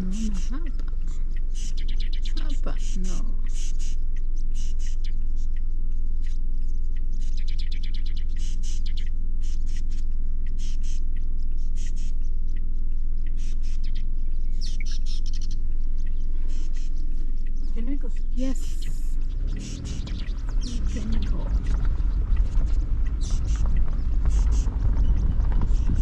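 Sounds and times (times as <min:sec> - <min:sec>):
birds chirping and trilling: 0:00.0 - 0:26.0
steady low rumble: 0:00.0 - 0:26.0.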